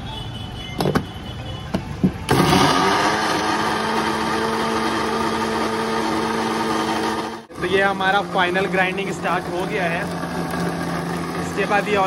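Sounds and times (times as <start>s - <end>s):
electric mixer grinder humming: 2.3s - 12.0s.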